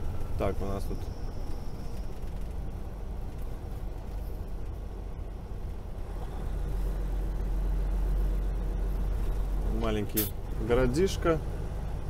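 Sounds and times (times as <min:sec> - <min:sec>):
road noise: 0:00.0 - 0:12.0
truck diesel engine rumbling: 0:00.0 - 0:12.0.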